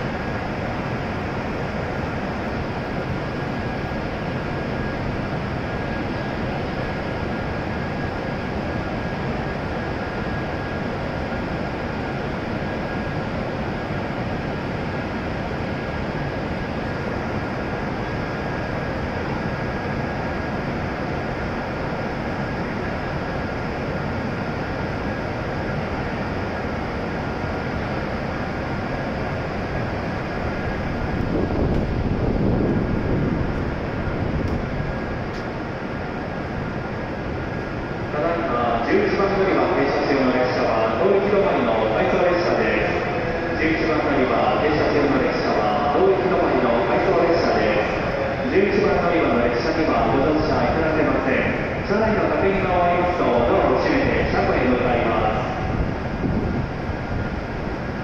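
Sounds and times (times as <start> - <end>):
train equipment whir and hum: 0.0 - 58.0.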